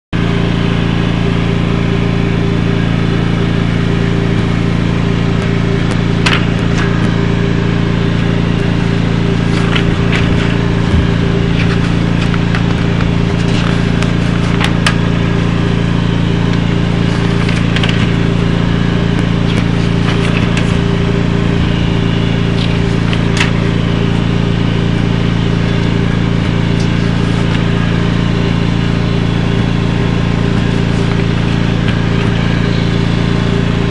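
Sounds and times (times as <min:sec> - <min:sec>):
lawn mower engine running: 0:00.2 - 0:33.9.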